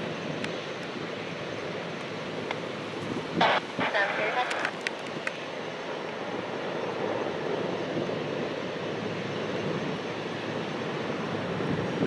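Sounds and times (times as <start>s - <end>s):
aircraft engine: 0.0s - 12.0s.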